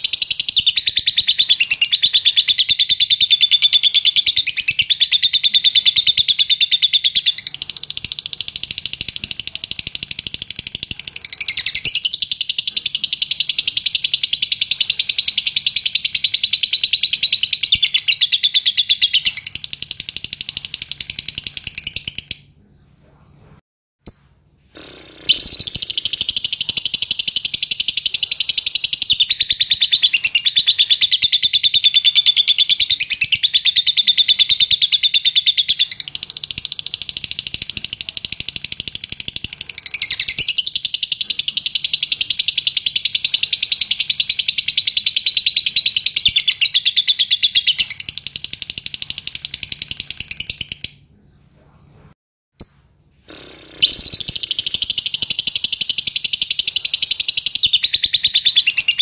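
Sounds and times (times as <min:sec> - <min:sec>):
lovebird chirping in rapid trill: 0:00.0 - 0:22.5, 0:24.0 - 0:24.4, 0:25.2 - 0:51.0, 0:52.6 - 0:53.0, 0:53.8 - 0:59.0.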